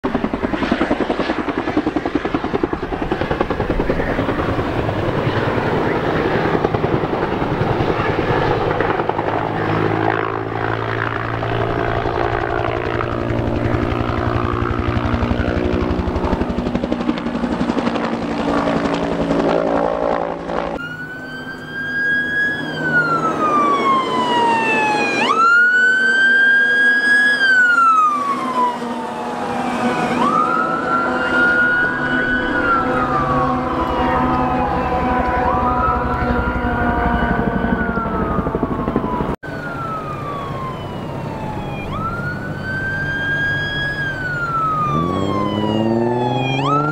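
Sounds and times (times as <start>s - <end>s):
fire engine siren wailing: 0.0s - 46.9s
helicopter rotor and engine: 0.0s - 46.9s.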